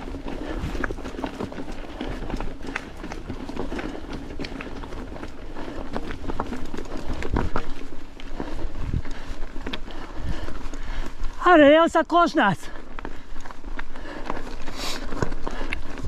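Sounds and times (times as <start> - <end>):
bike clicks and rattles: 0.0 - 11.4, 12.7 - 16.0
bike tyres crunching over stones: 0.0 - 16.0.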